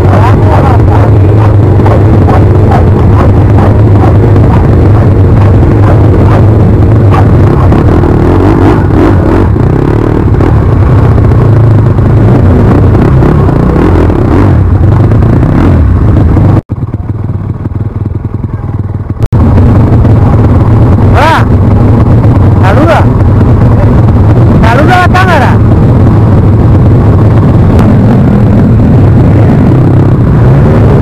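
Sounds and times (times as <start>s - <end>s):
pit bike engines running: 0.0s - 31.0s.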